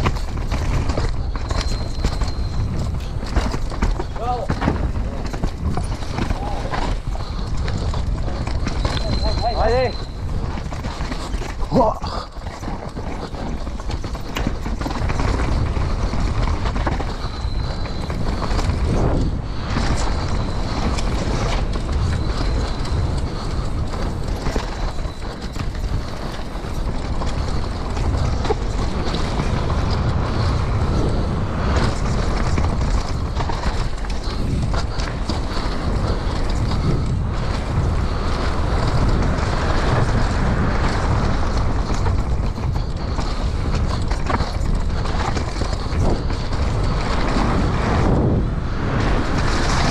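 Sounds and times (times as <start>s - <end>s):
bike rattling and knocking: 0.0s - 49.9s
bike tyres on dirt and rocks: 0.0s - 49.9s
wind rushing over microphone: 0.0s - 49.9s.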